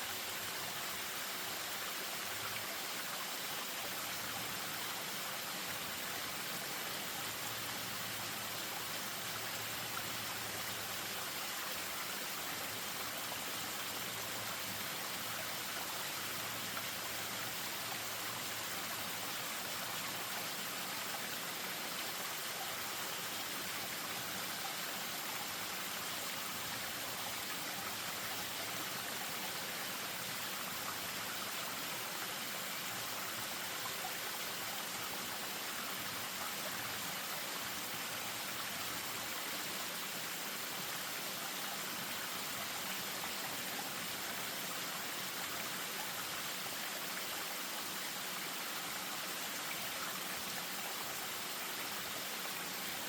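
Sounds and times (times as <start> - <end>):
stream spilling over small waterfall: 0.0 - 53.0.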